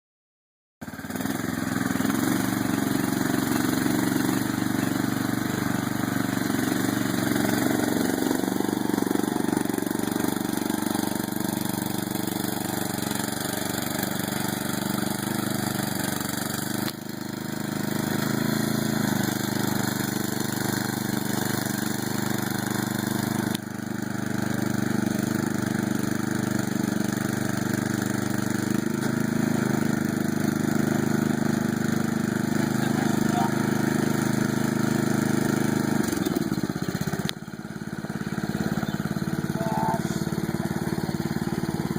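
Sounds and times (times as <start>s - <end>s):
lawn mower engine running: 0.8s - 41.9s.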